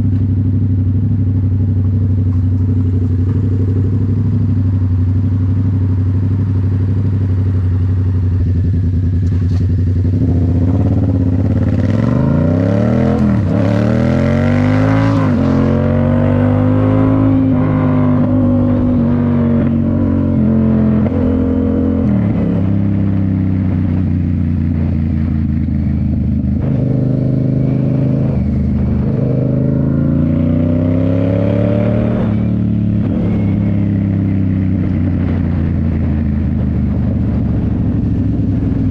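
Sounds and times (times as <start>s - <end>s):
motorcycle engine through gears: 0.0s - 38.9s.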